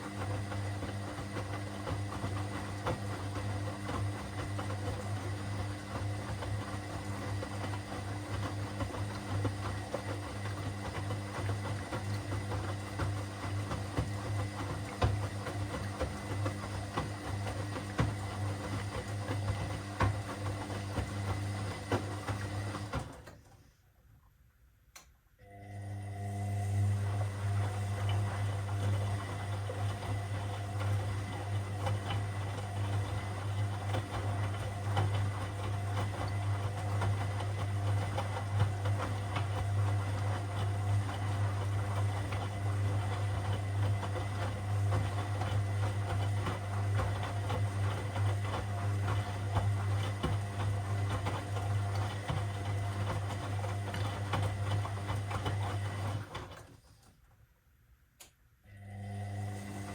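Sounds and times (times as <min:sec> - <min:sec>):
washing machine running: 0:00.0 - 0:23.6, 0:25.4 - 0:57.2, 0:58.7 - 0:59.9.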